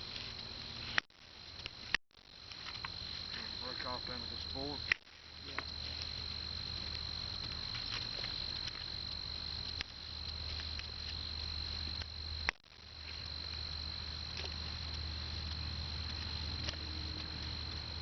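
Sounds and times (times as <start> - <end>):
insect chorus trilling: 0.0 - 18.0.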